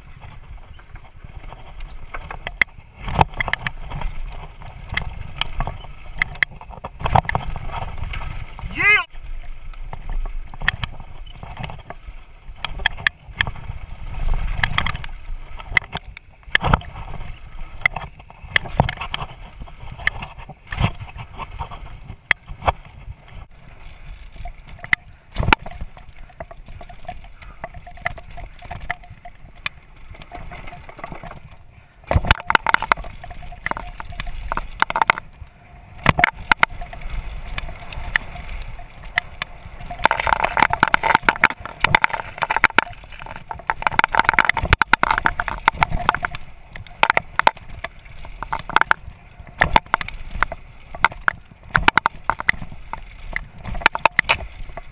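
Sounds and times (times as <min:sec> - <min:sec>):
bike knocks and clatter: 0:00.0 - 0:08.7, 0:09.9 - 0:13.8, 0:14.4 - 0:23.4, 0:24.2 - 0:35.3, 0:36.0 - 0:54.9
bike tyres rolling over dirt: 0:00.0 - 0:54.9.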